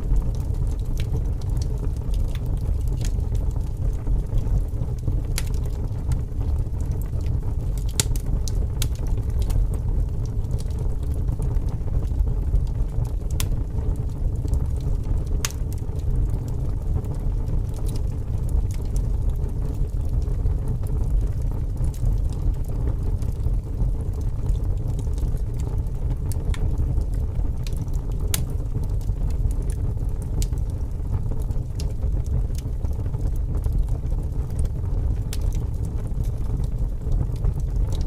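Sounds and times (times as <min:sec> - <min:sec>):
low rumble of wind: 0:00.0 - 0:38.0
wood fire crackling and popping: 0:00.0 - 0:38.0.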